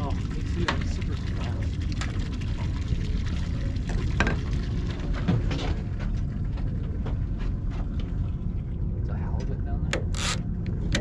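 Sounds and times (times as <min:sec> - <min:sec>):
steady low rumble: 0:00.0 - 0:11.0
water lapping against boat hull: 0:00.0 - 0:11.0.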